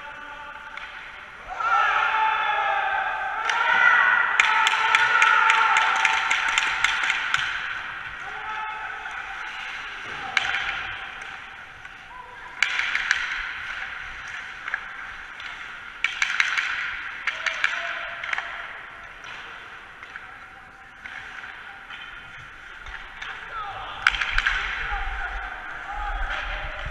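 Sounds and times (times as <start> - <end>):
pucks clacking off sticks: 0.0 - 1.5, 3.4 - 25.5, 26.1 - 26.9.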